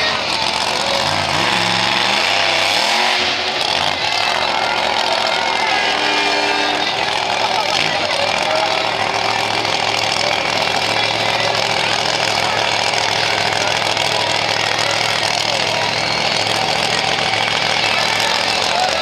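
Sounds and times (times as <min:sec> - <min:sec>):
truck engine running loud: 0:00.0 - 0:19.0.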